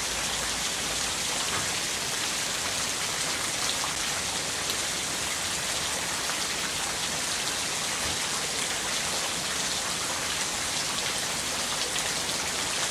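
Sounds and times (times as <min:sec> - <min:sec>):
rain falling on concrete: 0:00.0 - 0:12.9.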